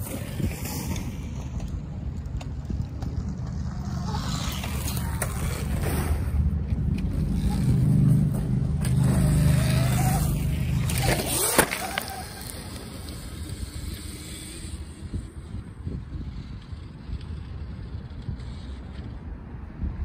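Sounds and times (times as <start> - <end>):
electric dirt bike motor whine: 2.7 - 19.0.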